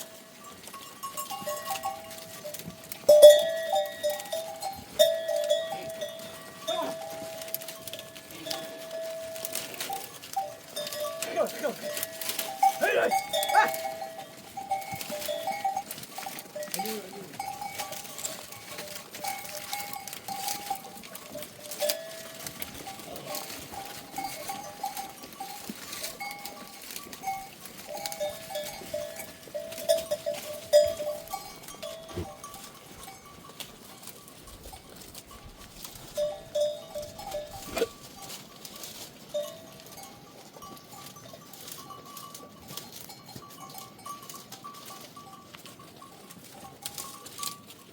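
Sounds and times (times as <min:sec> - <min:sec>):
goat bells clanking: 0:00.0 - 0:47.9.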